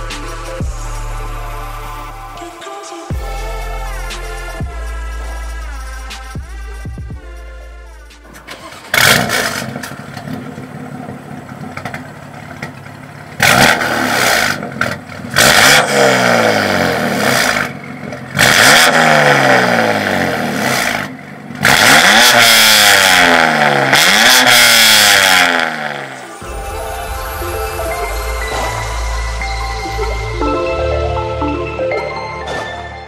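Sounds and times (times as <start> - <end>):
car engine revving and idling: 0.0 - 31.5.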